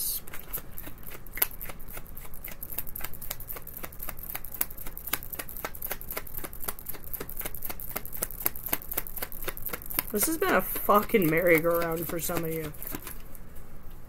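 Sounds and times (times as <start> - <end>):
cards being shuffled: 1.4 - 13.3.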